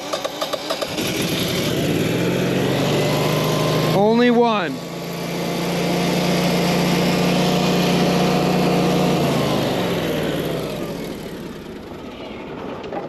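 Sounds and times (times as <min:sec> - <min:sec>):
generator engine running: 0:00.0 - 0:12.8.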